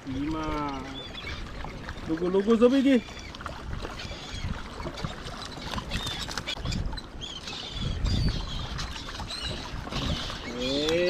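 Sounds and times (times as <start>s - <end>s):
water splashing around boat: 0.0s - 11.0s.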